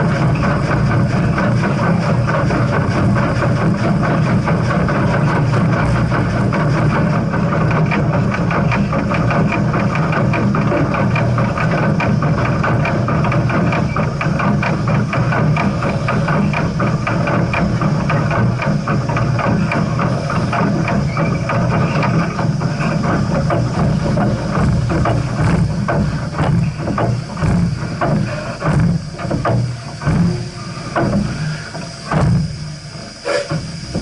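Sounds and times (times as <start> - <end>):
rapid rattles and knocks: 0.0 - 34.0
steam train rumbling: 0.0 - 34.0.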